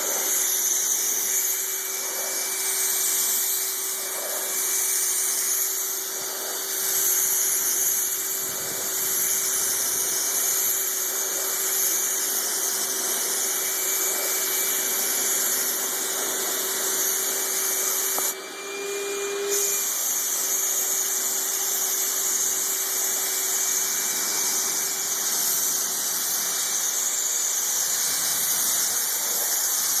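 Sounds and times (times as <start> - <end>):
strong hiss: 0.0 - 18.4, 19.4 - 30.0.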